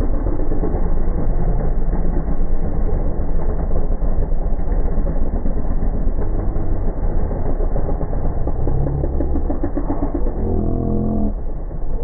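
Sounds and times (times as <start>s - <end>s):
engine running at low pitch: 0.0s - 12.0s.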